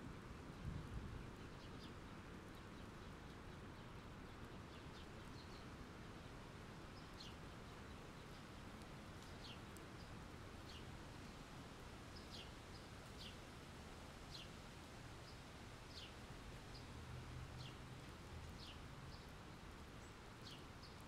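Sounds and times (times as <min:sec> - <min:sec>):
faint steady rain: 0:00.0 - 0:21.0.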